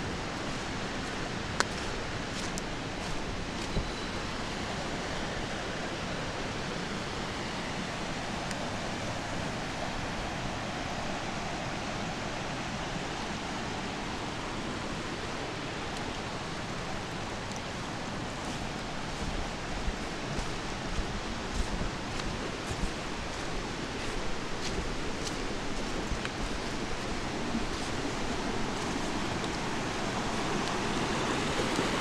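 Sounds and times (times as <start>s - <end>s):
stream rushing over weirs: 0.0s - 32.0s.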